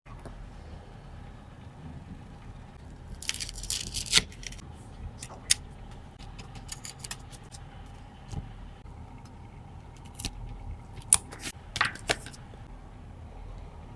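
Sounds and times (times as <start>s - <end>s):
low steady hum: 0.1s - 13.9s.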